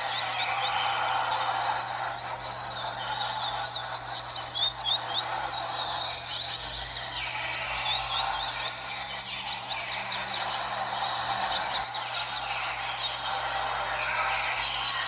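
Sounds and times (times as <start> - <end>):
birds singing whistled phrases: 0.0 - 15.0.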